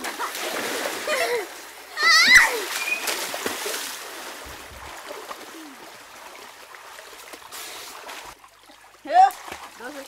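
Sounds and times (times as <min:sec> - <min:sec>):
creek water splashing: 0:00.0 - 0:10.0.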